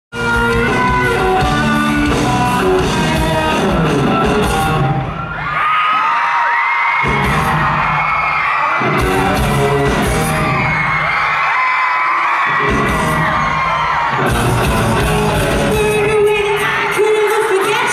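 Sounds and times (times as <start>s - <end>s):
pop-rock band playing live: 0.1s - 5.4s, 7.0s - 8.2s, 8.8s - 11.5s, 12.4s - 17.9s
crowd screaming: 0.2s - 17.9s.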